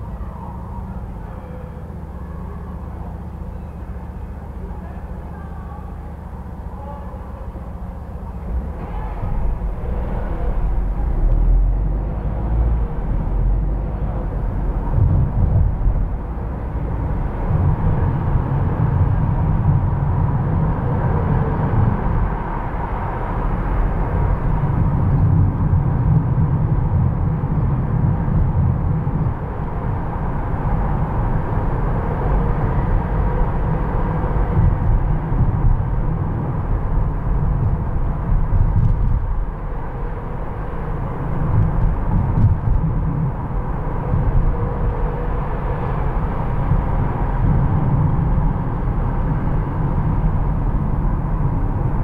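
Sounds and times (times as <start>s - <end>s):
car driving rumble: 0.0s - 52.0s.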